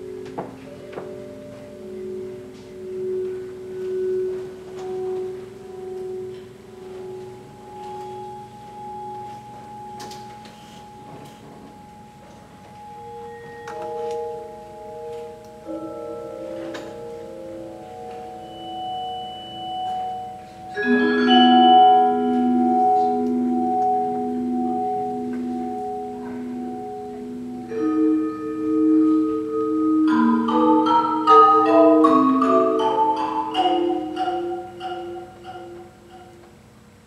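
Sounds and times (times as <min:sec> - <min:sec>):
held pitched chords: 0:00.0 - 0:37.0.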